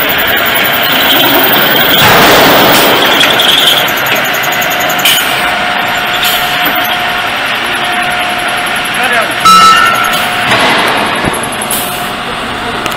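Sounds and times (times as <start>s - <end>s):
loud drilling machine running: 0.0s - 12.9s.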